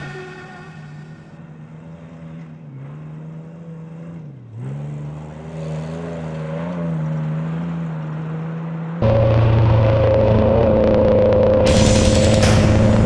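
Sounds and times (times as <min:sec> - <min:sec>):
truck engine at high revs: 0:01.2 - 0:13.0.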